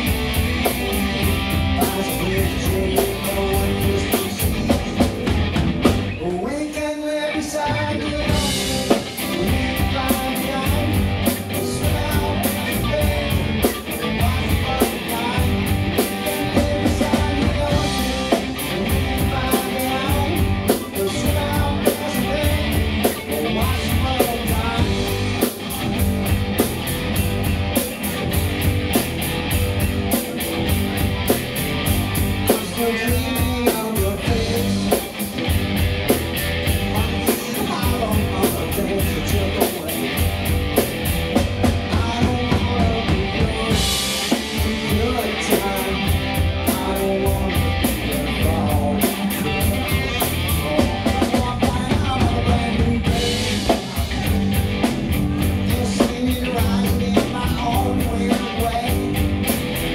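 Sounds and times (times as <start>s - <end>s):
drum kit beat: 0.0s - 6.6s, 7.7s - 59.9s
guitar: 0.0s - 59.9s.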